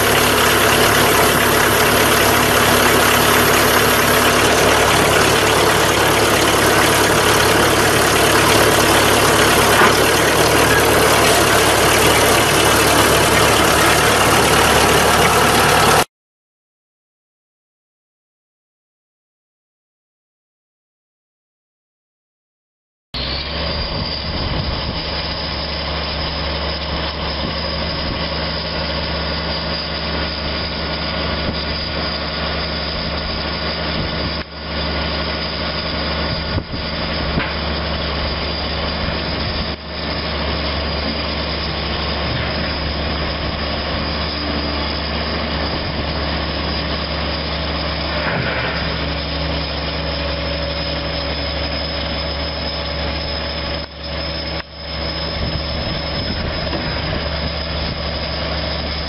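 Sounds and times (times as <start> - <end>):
diesel tractor engine running: 0.0 - 16.1, 23.2 - 59.0.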